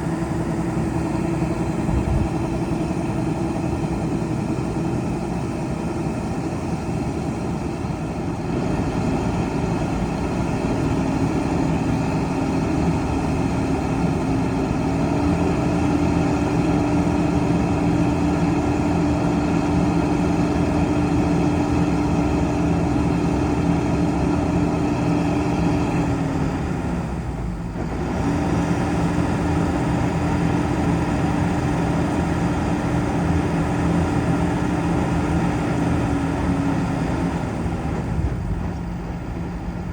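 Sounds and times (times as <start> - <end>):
combine harvester engine: 0.0 - 39.9.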